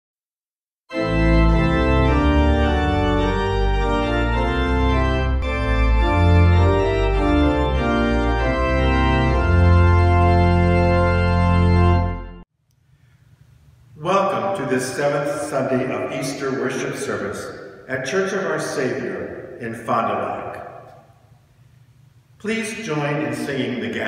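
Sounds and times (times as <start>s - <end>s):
organ music: 0.9s - 12.5s, 13.8s - 24.0s.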